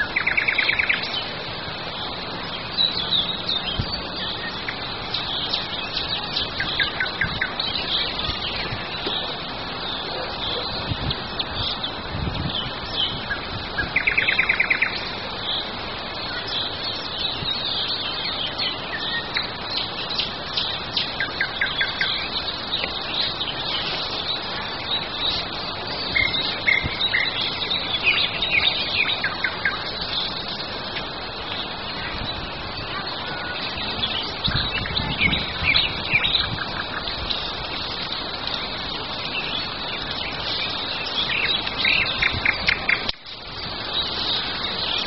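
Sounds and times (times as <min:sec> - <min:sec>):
songbirds singing: 0:00.0 - 0:45.0
steady outdoor hiss: 0:00.0 - 0:45.0.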